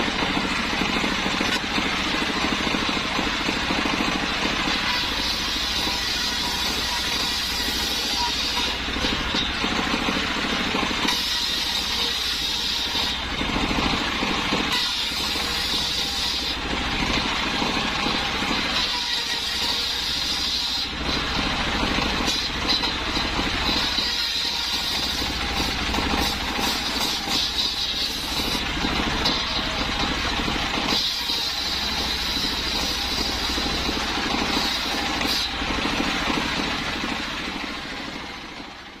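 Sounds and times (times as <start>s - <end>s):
saw blade whining through wood: 0.0s - 39.0s
saw engine chugging: 0.0s - 39.0s.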